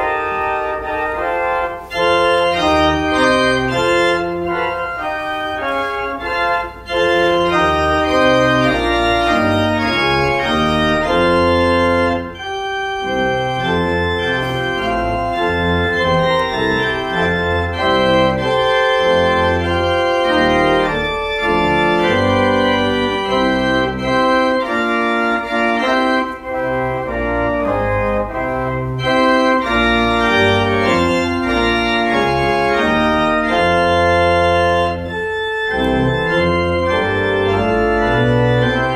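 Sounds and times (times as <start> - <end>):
church organ playing: 0.0 - 38.9.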